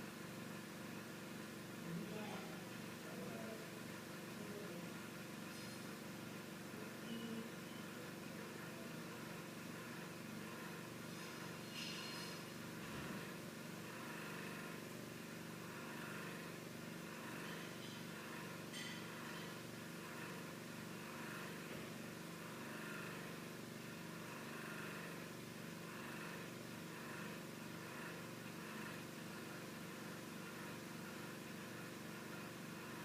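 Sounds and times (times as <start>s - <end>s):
faint mechanical hum: 0.0s - 33.0s.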